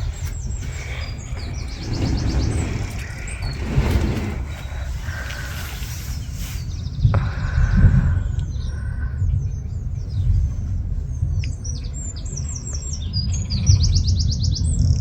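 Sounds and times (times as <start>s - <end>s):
steady low rumble: 0.0s - 13.2s
songbirds chirping and trilling: 0.0s - 15.0s.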